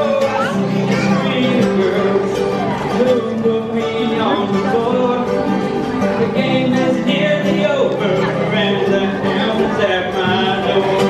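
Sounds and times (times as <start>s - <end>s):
acoustic guitar strumming: 0.0s - 11.0s
mandolin playing: 0.0s - 11.0s.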